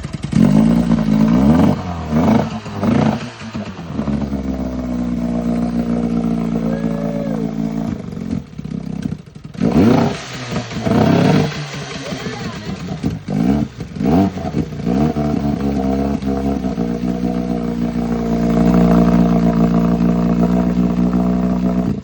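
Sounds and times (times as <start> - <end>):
outboard motor revving: 0.0 - 22.0.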